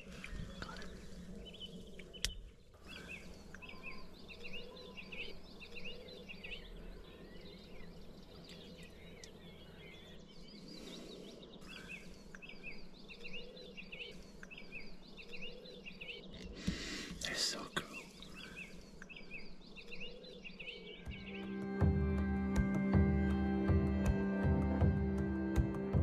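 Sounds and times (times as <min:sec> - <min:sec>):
birds chirping: 0:00.0 - 0:25.6.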